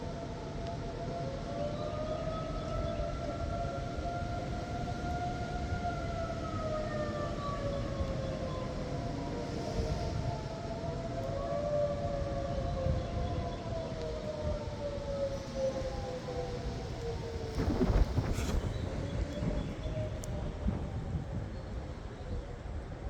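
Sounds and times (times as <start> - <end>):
warning sirens wailing: 0.0 - 23.0.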